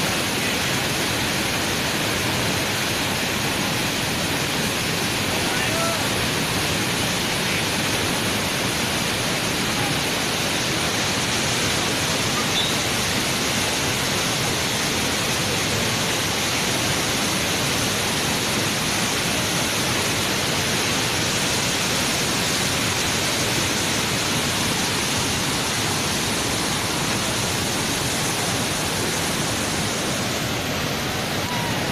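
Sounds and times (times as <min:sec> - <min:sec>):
waterfall rushing over rocks: 0:00.0 - 0:31.9.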